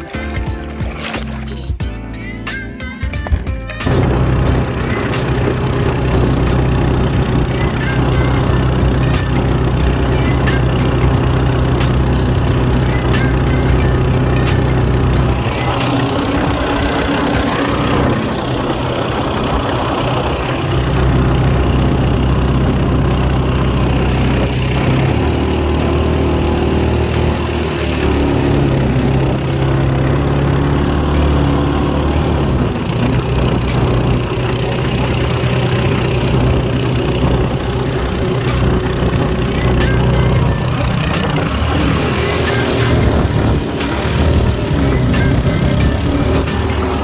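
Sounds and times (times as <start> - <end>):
boat motor engine running: 0.0 - 47.0.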